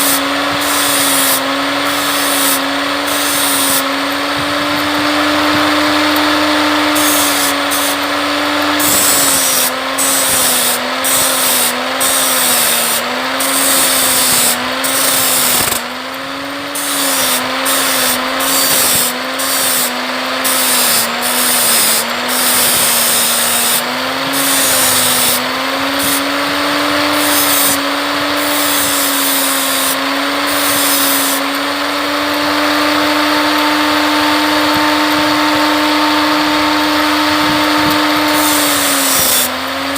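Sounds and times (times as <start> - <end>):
angle grinder grinding: 0.0 - 39.9.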